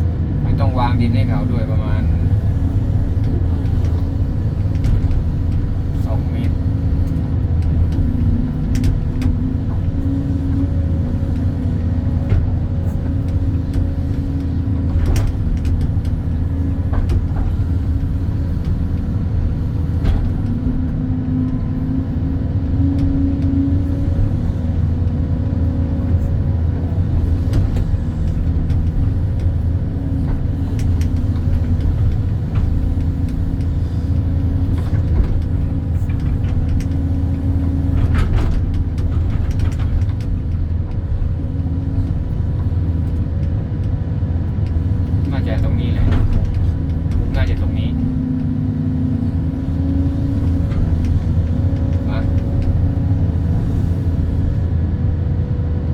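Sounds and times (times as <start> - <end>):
excavator diesel engine droning: 0.0 - 55.9.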